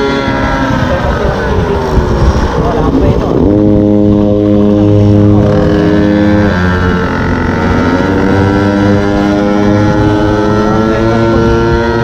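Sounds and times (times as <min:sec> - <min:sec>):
small two-stroke engine revving: 0:00.0 - 0:12.0.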